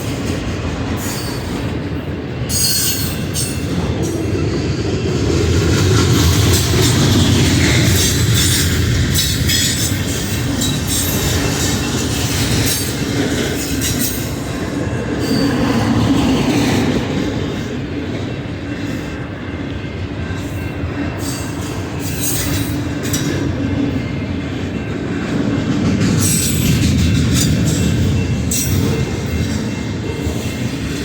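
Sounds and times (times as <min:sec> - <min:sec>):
freight train cars rumbling: 0:00.0 - 0:31.0.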